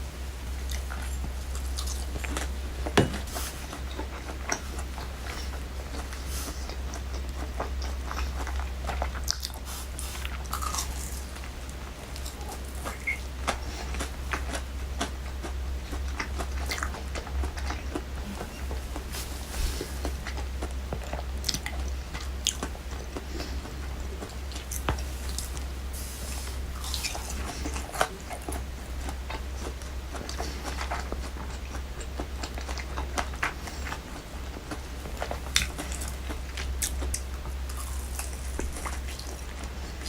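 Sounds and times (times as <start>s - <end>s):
biting and chewing fried chicken: 0.0s - 40.0s
steady low hum: 0.0s - 40.0s.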